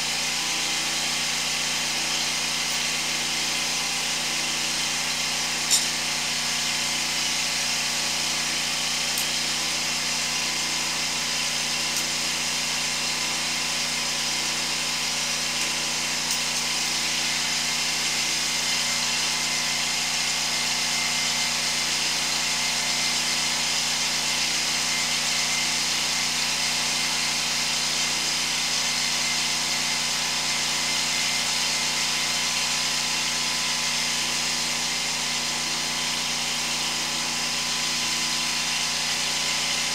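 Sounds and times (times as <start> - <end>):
engine and high-pressure pump running: 0.0 - 39.9.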